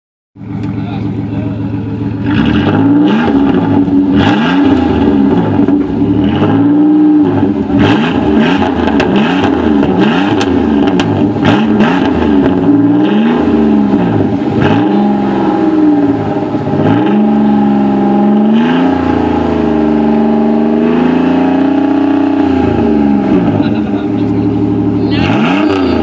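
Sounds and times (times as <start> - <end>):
exhaust cracks: 0.4 - 26.0
unmuffled car engine revving: 0.4 - 26.0.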